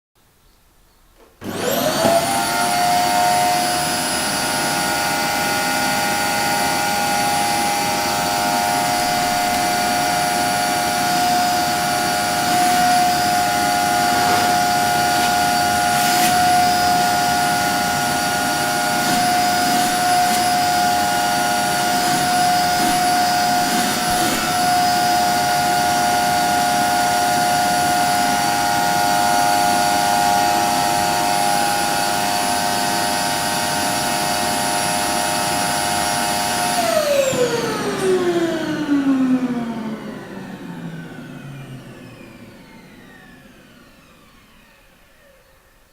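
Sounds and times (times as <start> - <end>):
vacuum cleaner running: 1.2 - 45.7.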